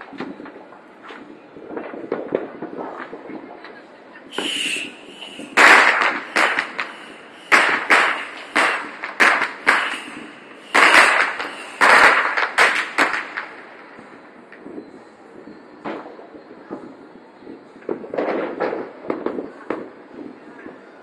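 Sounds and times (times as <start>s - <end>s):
fireworks bangs: 0.0s - 14.8s, 17.5s - 20.4s.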